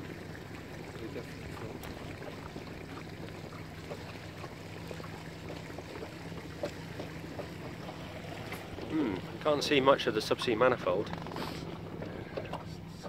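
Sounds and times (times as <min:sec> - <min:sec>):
boat engine humming: 0:00.0 - 0:13.0
water lapping against hull: 0:00.0 - 0:13.0.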